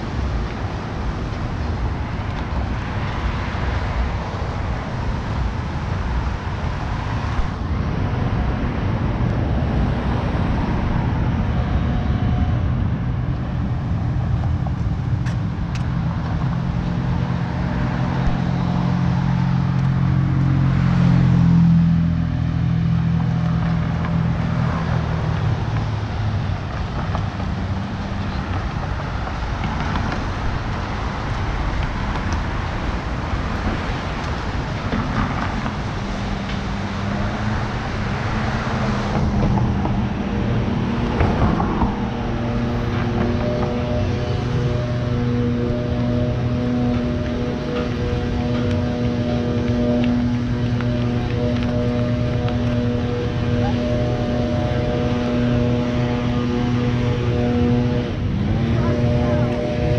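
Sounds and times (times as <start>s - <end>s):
cars passing: 0.0s - 59.9s
steady low traffic rumble: 0.0s - 59.9s
vehicle engine hum: 0.0s - 59.9s.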